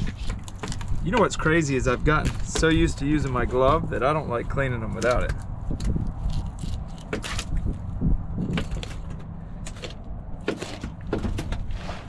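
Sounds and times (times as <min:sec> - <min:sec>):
low steady rumble: 0:00.9 - 0:12.0.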